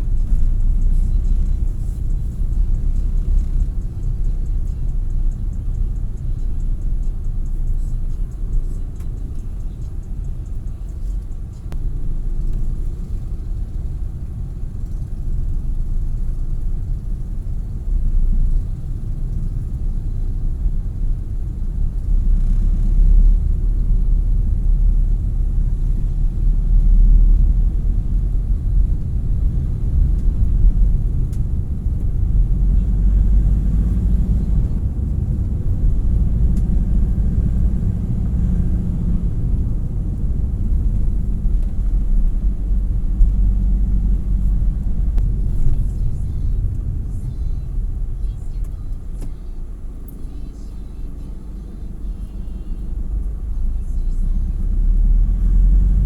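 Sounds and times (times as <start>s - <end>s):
vehicle rumbling: 0.0s - 56.0s.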